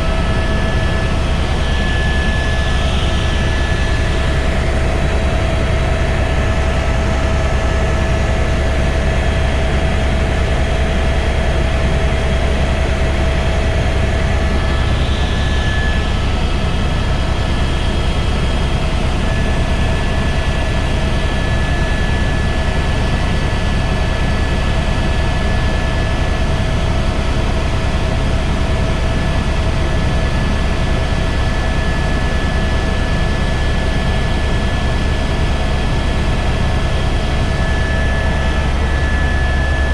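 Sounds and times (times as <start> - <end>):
helicopter in flight: 0.0 - 39.9.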